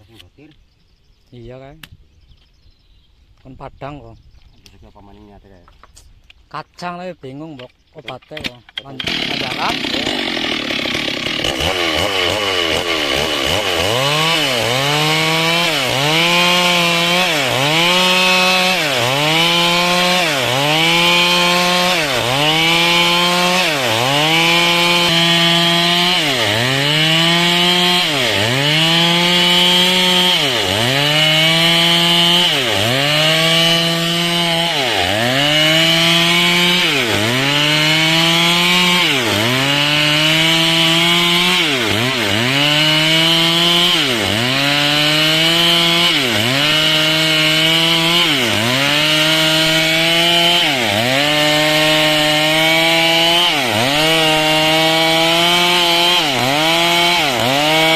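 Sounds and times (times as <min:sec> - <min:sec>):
chainsaw cutting wood: 0:08.3 - 0:57.9.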